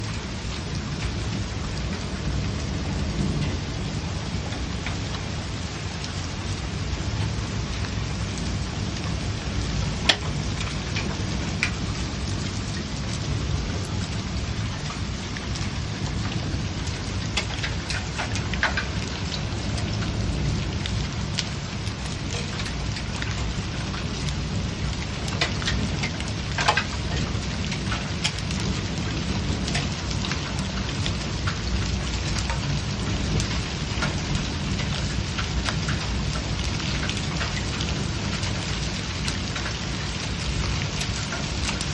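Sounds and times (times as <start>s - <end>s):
hailstones ticking: 0.0s - 41.9s
rain hissing: 0.0s - 41.9s.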